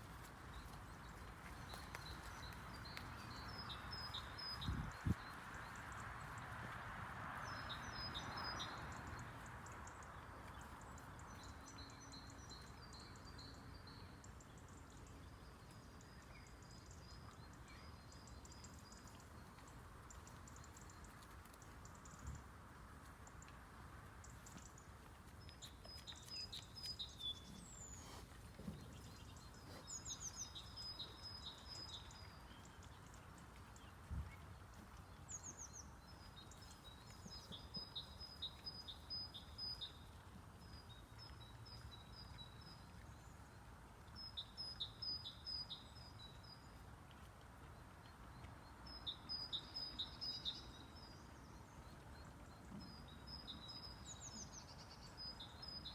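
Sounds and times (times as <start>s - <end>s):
songbird singing: 0.0s - 22.5s, 24.2s - 55.9s
faint background noise: 0.0s - 55.9s.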